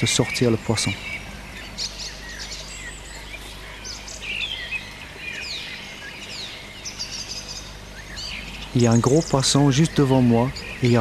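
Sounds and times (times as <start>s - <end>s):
faint low hum: 0.0s - 11.0s
small birds chirping: 0.0s - 11.0s.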